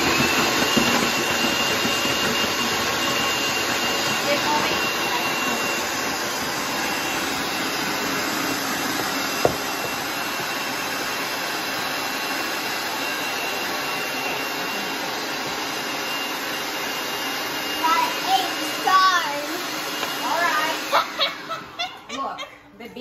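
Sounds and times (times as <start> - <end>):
food processor motor running: 0.0 - 22.4.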